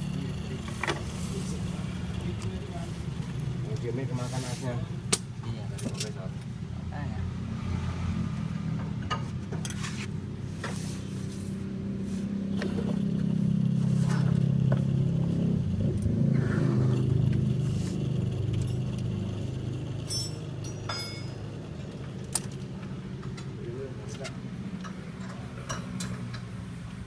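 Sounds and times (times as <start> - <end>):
car engine running: 0.0 - 7.6, 8.3 - 27.0.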